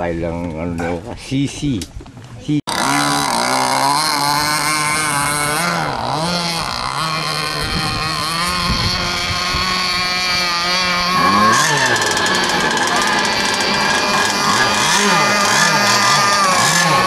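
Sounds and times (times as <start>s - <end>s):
model boat engine running: 2.7s - 17.0s.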